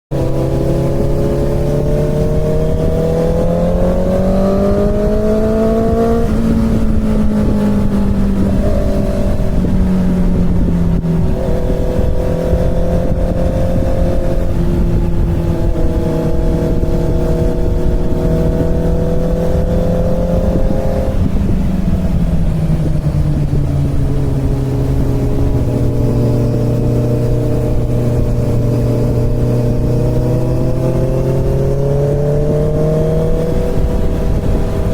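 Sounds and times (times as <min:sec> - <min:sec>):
motorcycle engine revving: 0:00.1 - 0:34.9
wind and road noise: 0:00.1 - 0:34.9.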